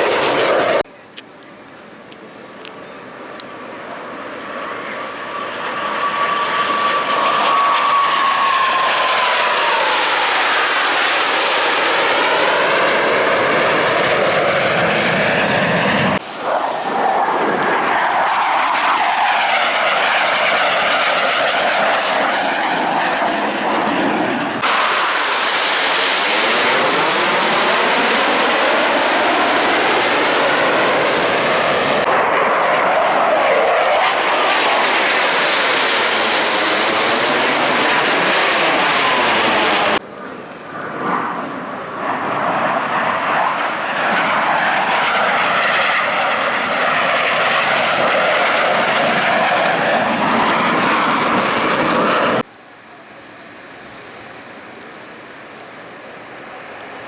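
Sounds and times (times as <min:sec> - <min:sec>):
jets flying past: 0:00.0 - 0:00.8, 0:03.3 - 0:52.5
jet engine whine: 0:00.0 - 0:57.0.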